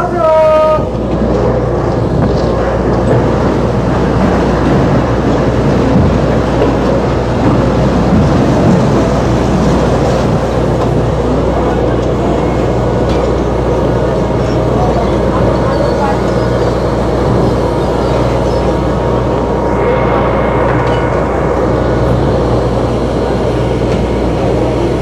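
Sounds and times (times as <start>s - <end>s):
loud machinery noise: 0.0s - 25.0s
low engine hum: 0.0s - 25.0s.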